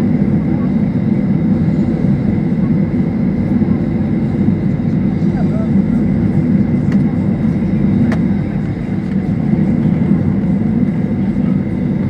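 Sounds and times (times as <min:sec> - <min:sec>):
airplane cabin engine rumble: 0:00.0 - 0:12.0
high engine whine: 0:00.0 - 0:12.0.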